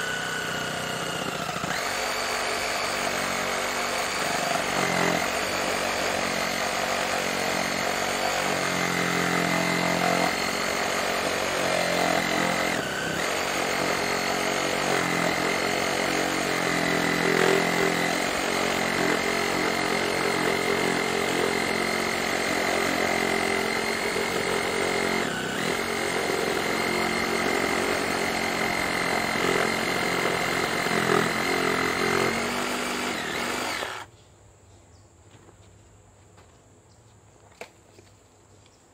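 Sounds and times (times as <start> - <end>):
reciprocating saw cutting a branch: 1.1 - 34.1.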